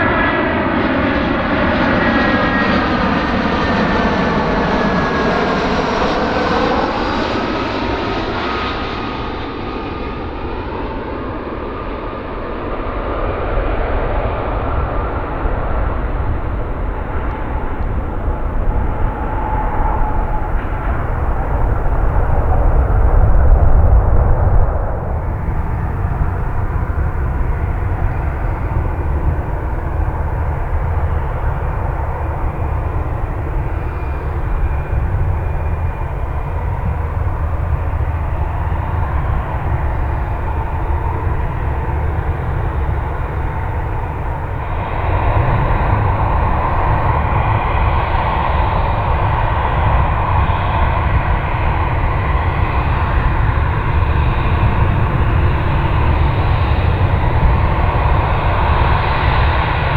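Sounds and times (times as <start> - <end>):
jet airliner engines rumbling: 0.0 - 59.9.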